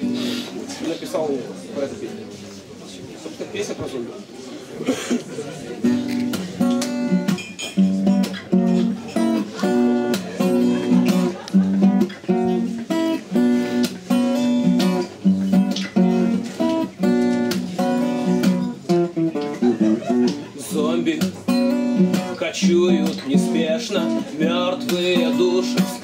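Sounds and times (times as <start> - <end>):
acoustic guitar strumming: 0.0 - 0.6, 5.8 - 26.0.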